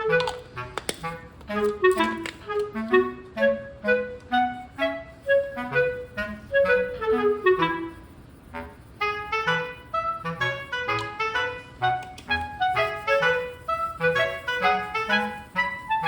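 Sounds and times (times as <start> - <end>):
bouncy clarinet-led instrumental music: 0.0 - 16.0.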